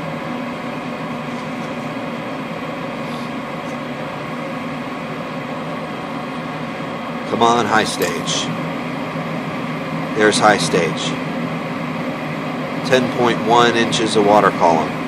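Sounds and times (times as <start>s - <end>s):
draft motor hum: 0.0s - 15.0s
rush of gas burners: 0.0s - 15.0s.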